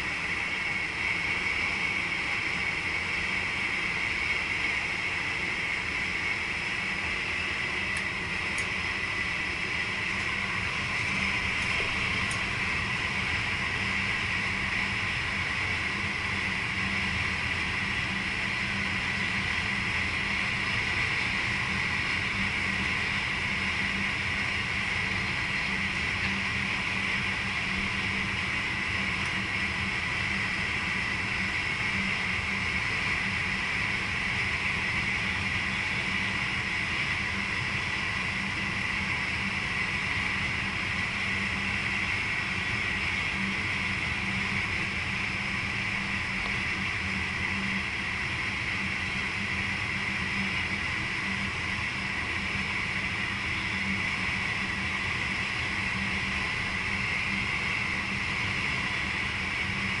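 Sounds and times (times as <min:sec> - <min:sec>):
low steady hum: 0:00.0 - 1:00.0
train cab hiss and rumble: 0:00.0 - 1:00.0.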